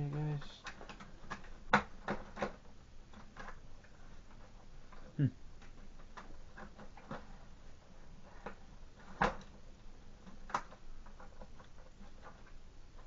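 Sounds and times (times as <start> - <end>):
plastic parts clicking and knocking: 0.1 - 13.0.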